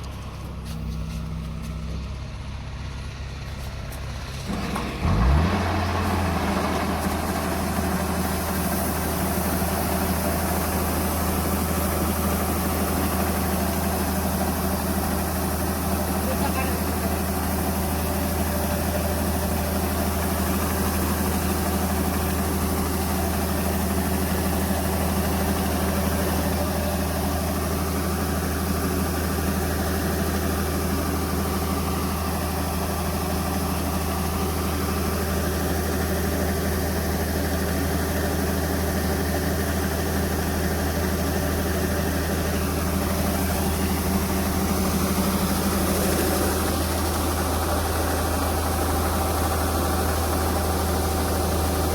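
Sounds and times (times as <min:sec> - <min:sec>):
diesel engine humming: 0:00.0 - 0:51.9.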